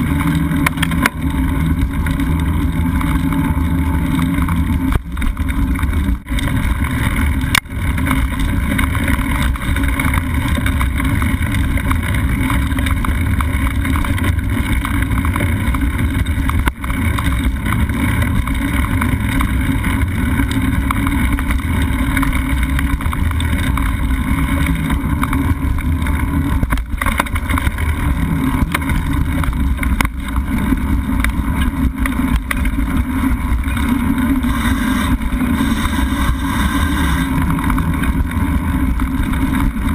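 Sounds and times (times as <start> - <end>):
mountain bike rumbling over dirt: 0.0 - 39.9.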